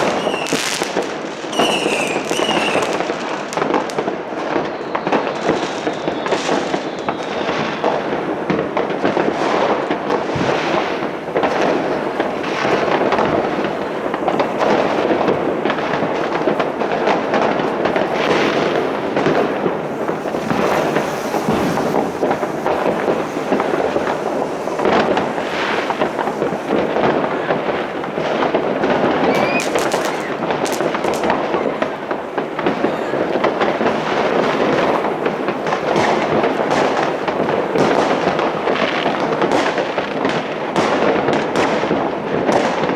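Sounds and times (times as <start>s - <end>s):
fireworks and firecrackers banging: 0.0s - 42.9s.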